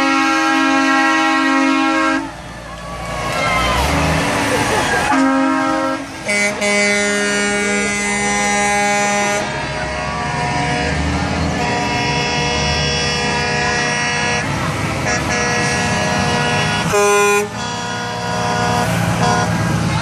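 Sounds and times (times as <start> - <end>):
truck air horn blasts: 0.0 - 2.4, 5.1 - 20.0
truck engines running: 0.0 - 20.0.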